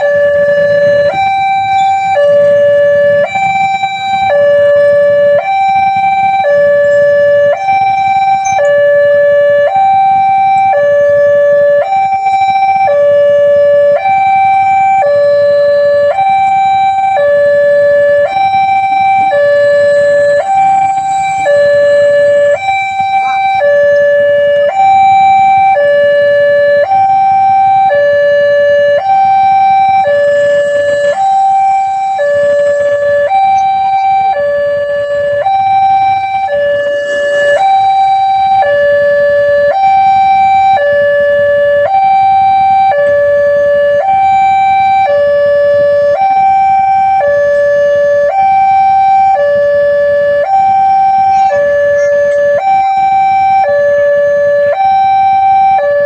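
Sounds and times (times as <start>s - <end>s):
two-tone warning siren: 0.0s - 56.0s.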